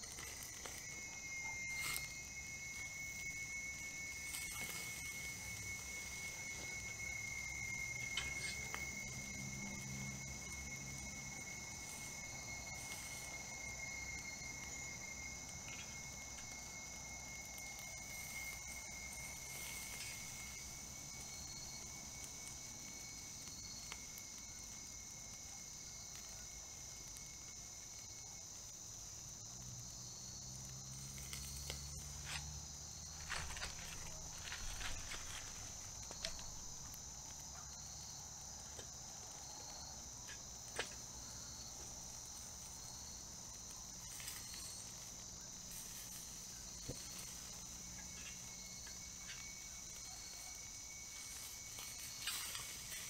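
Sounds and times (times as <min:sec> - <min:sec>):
night insects trilling: 0:00.0 - 0:53.0.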